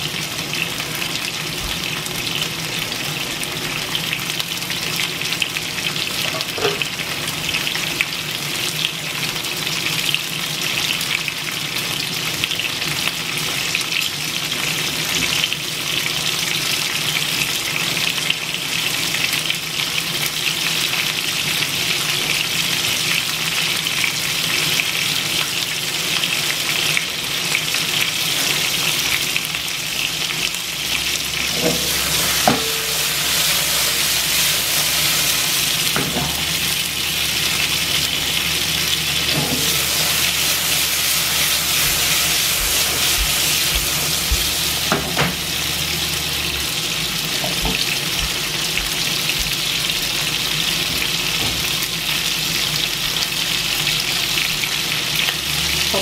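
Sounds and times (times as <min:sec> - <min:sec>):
peppers sizzling in oil: 0:00.0 - 0:56.0.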